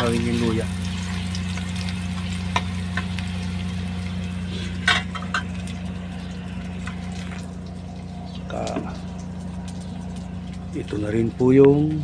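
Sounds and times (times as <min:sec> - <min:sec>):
faint sizzle in pot: 0:00.0 - 0:12.0
steady low hum: 0:00.0 - 0:12.0.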